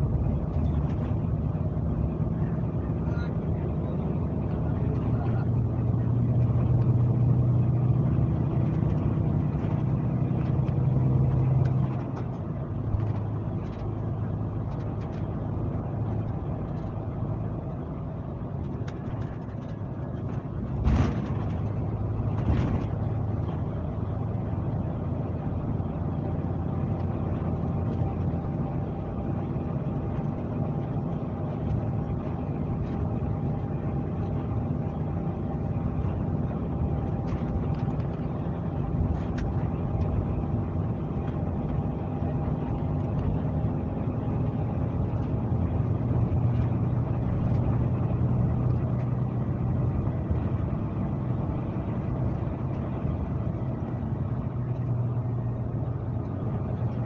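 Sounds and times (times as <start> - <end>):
coach engine humming: 0.0 - 57.0.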